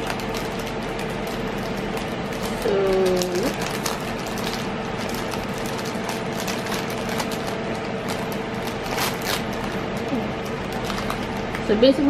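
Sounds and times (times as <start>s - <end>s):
mechanical hum: 0.0s - 12.0s
packaging crinkling: 0.0s - 12.0s.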